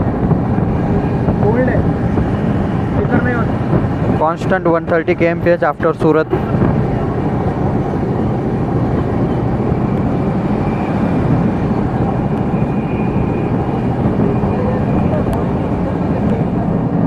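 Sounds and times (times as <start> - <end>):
faint high whine: 0.0 - 17.0
train wheels rumbling on rails: 0.0 - 17.0.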